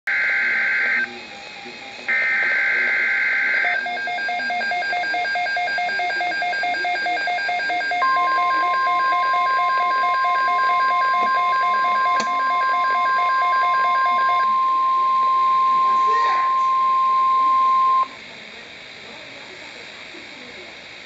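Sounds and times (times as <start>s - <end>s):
rapid electronic beeping: 0.1s - 18.2s
steady warning alarm tone: 0.1s - 18.2s.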